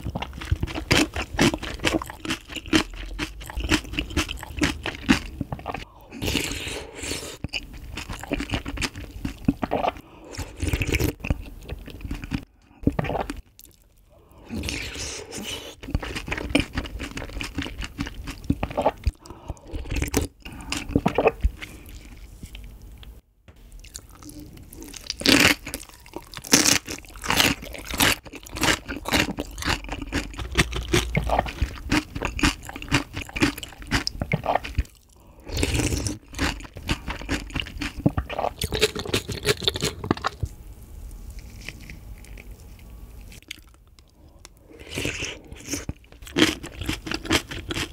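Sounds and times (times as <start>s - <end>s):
crunchy chewing: 0.0s - 6.8s, 14.6s - 23.1s, 23.8s - 40.4s, 41.3s - 47.9s.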